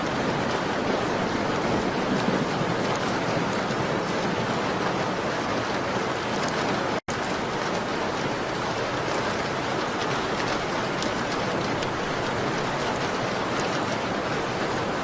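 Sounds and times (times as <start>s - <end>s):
rain on a window: 0.0s - 15.0s.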